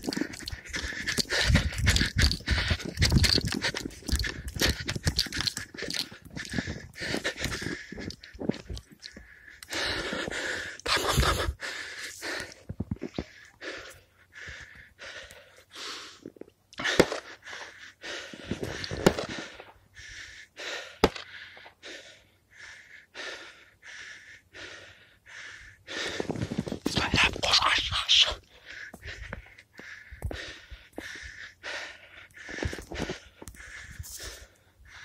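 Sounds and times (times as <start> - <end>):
heavy fast breathing: 0.0 - 35.0.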